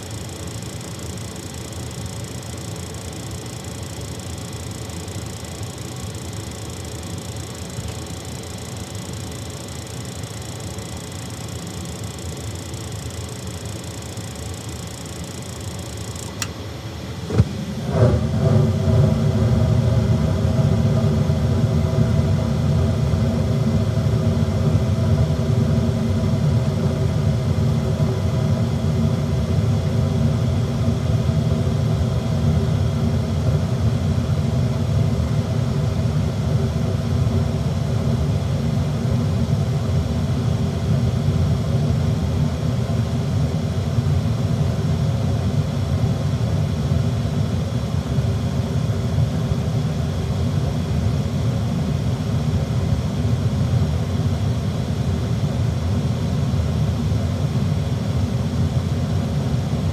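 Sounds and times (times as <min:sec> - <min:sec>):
faint steady hum: 0:00.0 - 0:59.9
gas furnace roar: 0:00.0 - 0:59.9.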